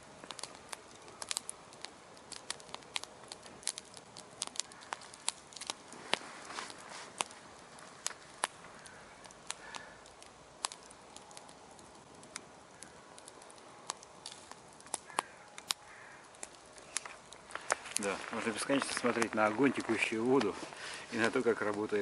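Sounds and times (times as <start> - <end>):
campfire crackling: 0.0 - 22.0
hiss of burning: 0.0 - 22.0.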